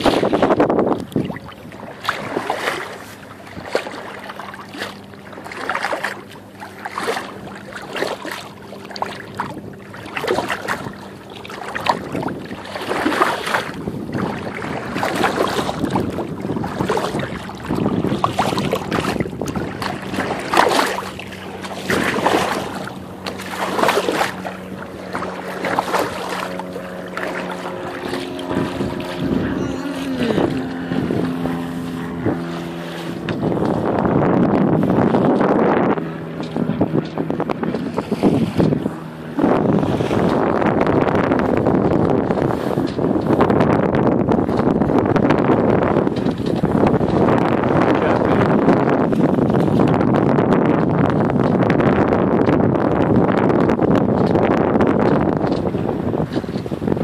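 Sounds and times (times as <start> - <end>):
water splashing against hull: 0.0 - 57.0.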